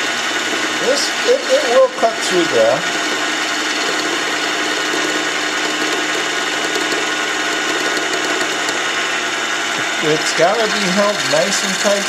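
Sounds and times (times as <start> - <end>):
burr grinding steel: 0.0 - 12.0
lathe motor hum: 0.0 - 12.0.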